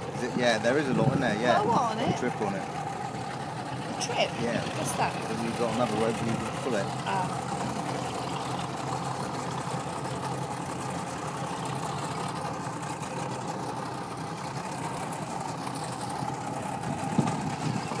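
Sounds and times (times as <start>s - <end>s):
motorboat engine idling: 0.0s - 18.0s.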